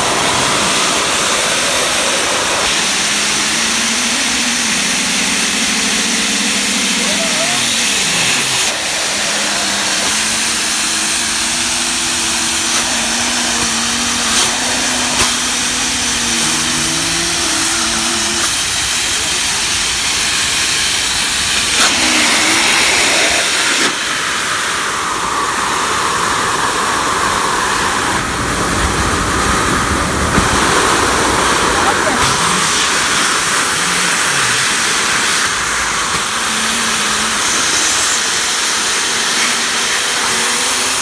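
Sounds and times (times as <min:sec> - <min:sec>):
low humming tones: 0:00.0 - 0:20.2, 0:26.5 - 0:41.0
air hissing from ground vent: 0:00.0 - 0:41.0.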